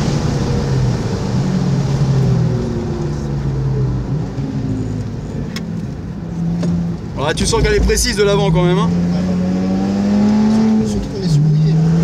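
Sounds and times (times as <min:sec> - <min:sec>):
car engine under load: 0:00.0 - 0:12.0
tyre and road noise: 0:00.0 - 0:12.0.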